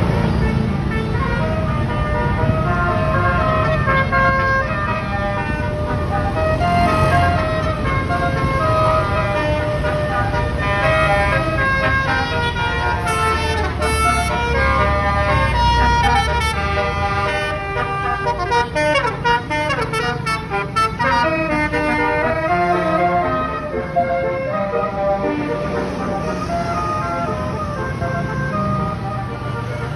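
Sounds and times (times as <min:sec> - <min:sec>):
bus engine rumble: 0:00.0 - 0:29.9
multi-tone musical bus horn: 0:00.0 - 0:29.9.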